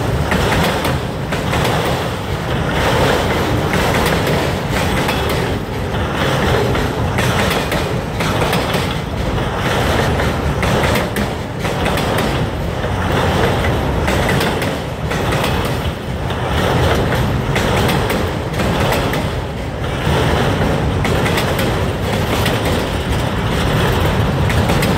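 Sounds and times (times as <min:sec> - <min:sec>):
freight train wheels rumbling: 0:00.0 - 0:24.9
wheels clacking on rail joints: 0:00.0 - 0:24.9.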